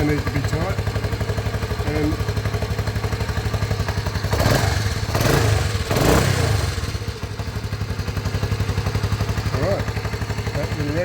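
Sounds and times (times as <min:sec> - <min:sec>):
motorbike engine idling and blipping: 0:00.0 - 0:11.0.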